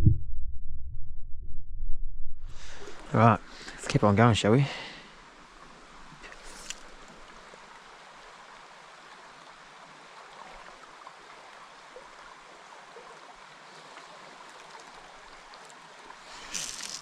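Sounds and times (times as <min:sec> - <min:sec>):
river water flowing: 0:02.6 - 0:17.0.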